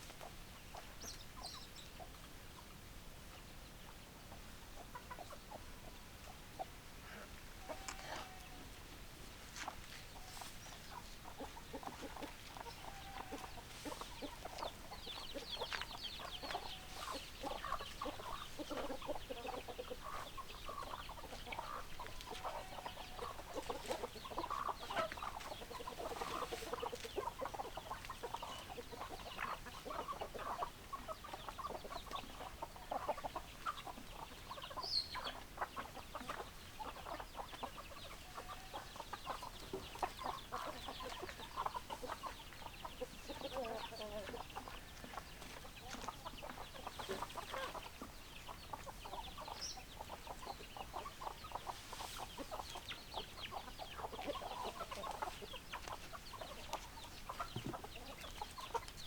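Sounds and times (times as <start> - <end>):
hens clucking: 3.4 - 59.0.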